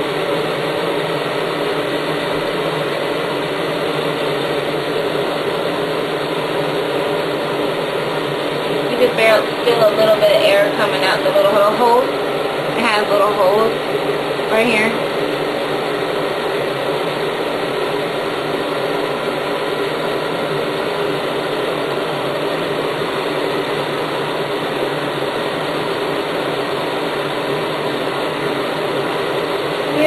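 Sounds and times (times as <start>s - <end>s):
hair dryer fan whirring: 0.0s - 30.0s.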